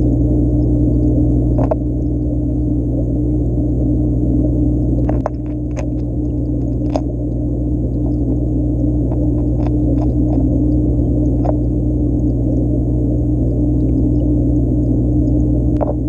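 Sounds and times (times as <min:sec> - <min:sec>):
aquarium equipment humming: 0:00.0 - 0:16.0.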